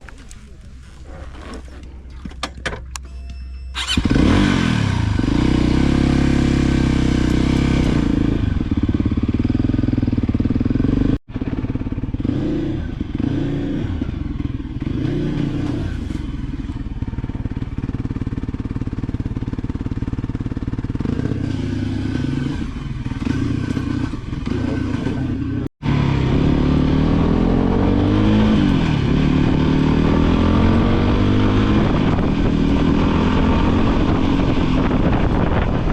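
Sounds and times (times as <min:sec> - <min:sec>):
motorcycle engine running: 0:03.8 - 0:35.9.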